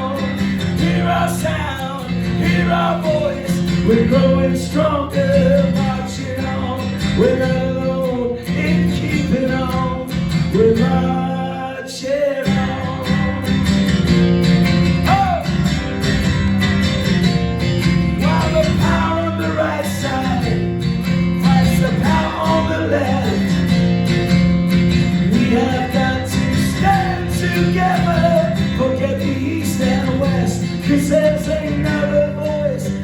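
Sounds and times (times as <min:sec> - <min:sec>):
strummed acoustic guitars: 0:00.0 - 0:33.0.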